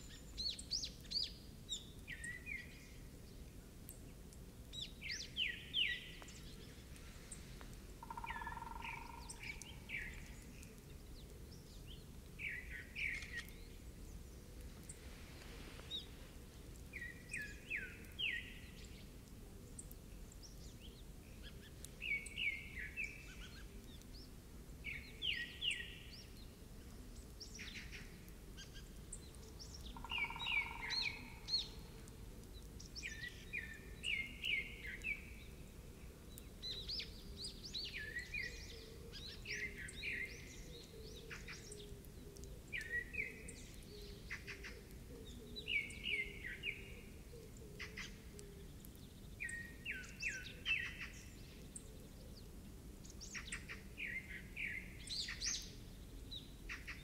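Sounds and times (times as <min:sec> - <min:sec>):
faint outdoor background noise: 0:00.0 - 0:57.0.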